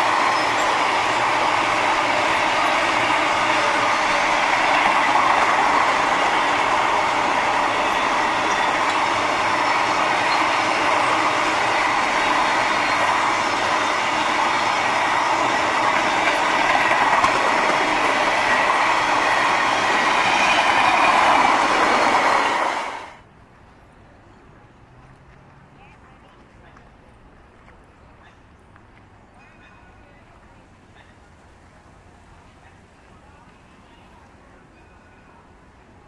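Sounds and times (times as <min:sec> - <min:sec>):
train wheels on rails: 0:00.0 - 0:36.0.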